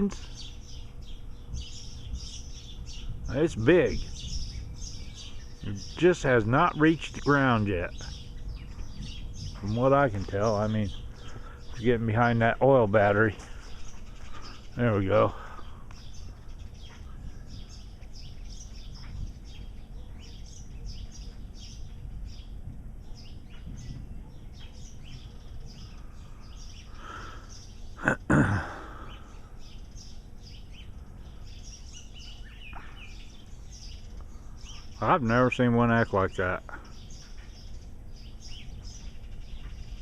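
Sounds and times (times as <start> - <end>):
small birds chirping: 0.0 - 40.0
steady low rumble: 0.0 - 40.0.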